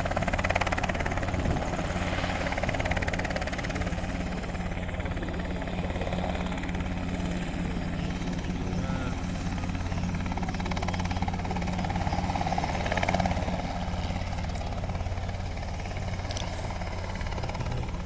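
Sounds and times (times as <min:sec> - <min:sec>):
helicopter engine tone: 0:00.0 - 0:18.0
helicopter rotor beating: 0:00.0 - 0:18.0.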